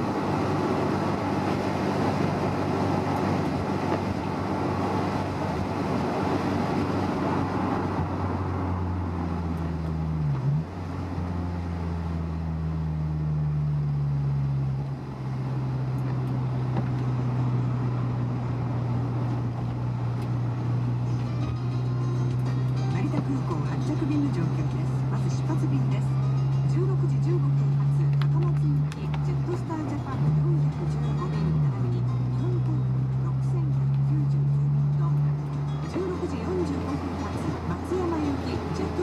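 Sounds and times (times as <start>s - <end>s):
car engine drone: 0.0s - 39.0s.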